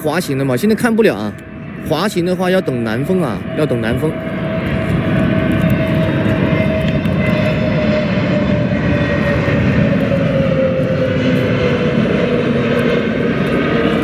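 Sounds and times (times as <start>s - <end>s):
jet airliner passing: 0.0s - 14.0s.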